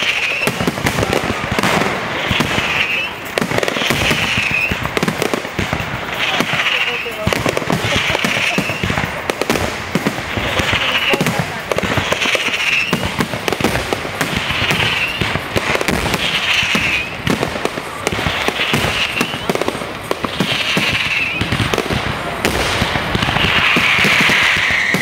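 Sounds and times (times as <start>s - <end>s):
firework bangs and crackles: 0.0s - 25.0s
firework rushing hiss: 0.0s - 25.0s.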